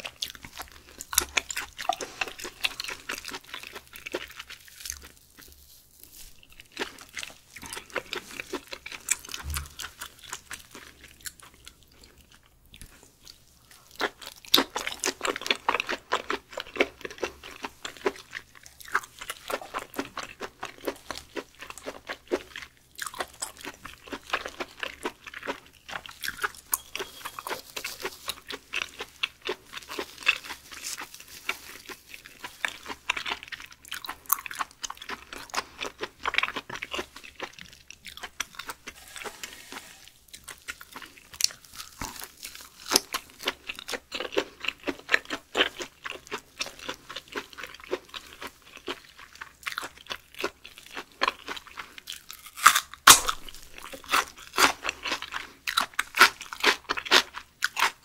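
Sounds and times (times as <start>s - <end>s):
chewing raw meat: 0.0s - 58.0s.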